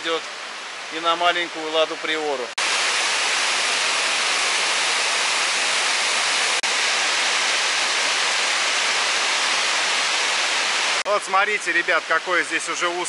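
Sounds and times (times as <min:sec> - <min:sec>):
rushing mountain water: 0:00.0 - 0:13.0.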